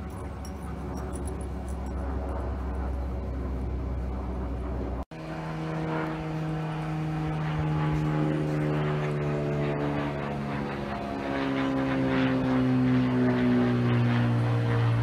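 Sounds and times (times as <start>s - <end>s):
propeller airplane engine droning: 0.0s - 15.0s.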